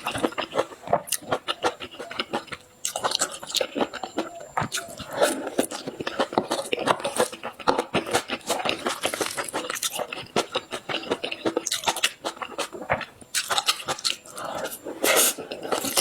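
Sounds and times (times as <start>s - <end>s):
person chewing pastry: 0.0s - 16.0s.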